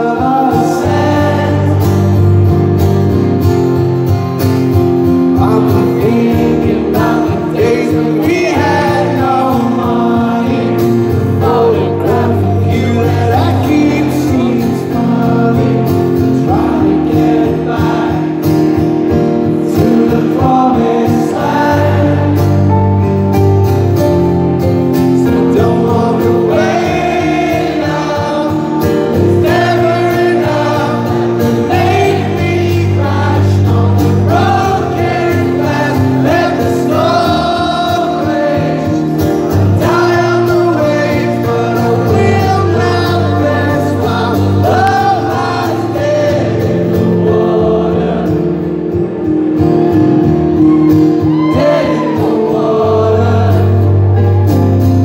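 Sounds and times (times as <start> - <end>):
man singing: 0.0 - 2.7, 5.0 - 23.3, 25.0 - 49.5, 51.3 - 54.4
strummed acoustic guitar: 0.0 - 55.0.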